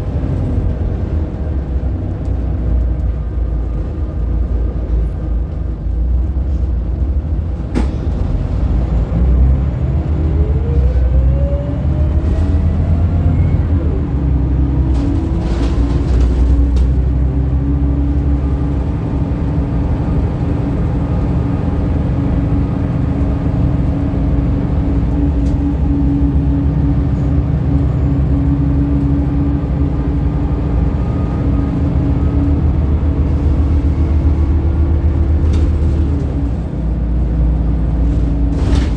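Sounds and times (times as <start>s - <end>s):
bus diesel engine rumble: 0.0s - 38.9s.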